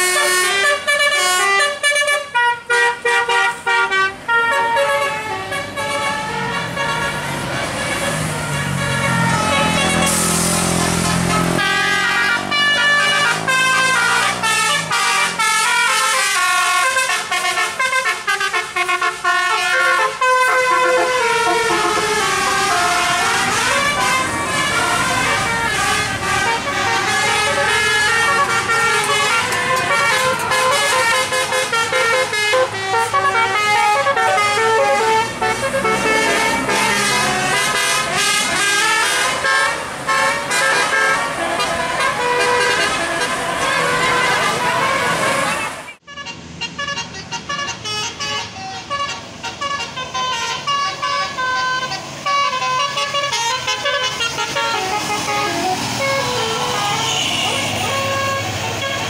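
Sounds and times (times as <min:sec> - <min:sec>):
bus musical air horns: 0:00.0 - 0:59.0.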